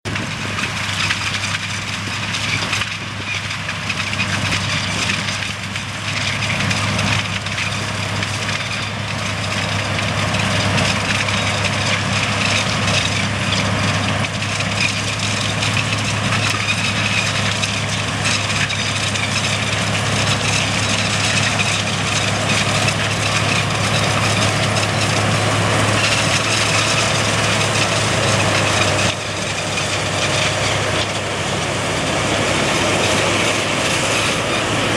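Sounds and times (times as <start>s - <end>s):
machine cutting and chopping wood: 0.0s - 34.9s
deep engine hum: 4.0s - 34.9s.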